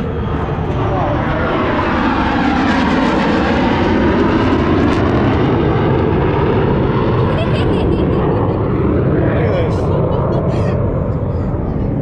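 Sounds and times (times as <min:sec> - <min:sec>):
jet fighter engine roar: 0:00.0 - 0:12.0.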